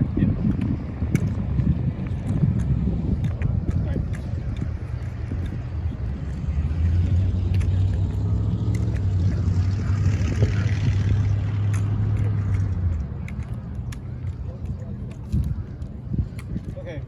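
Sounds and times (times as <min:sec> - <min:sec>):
low engine rumble: 0:00.0 - 0:17.0
sharp clicks and slaps: 0:00.5 - 0:06.4, 0:07.0 - 0:09.5, 0:10.2 - 0:16.8.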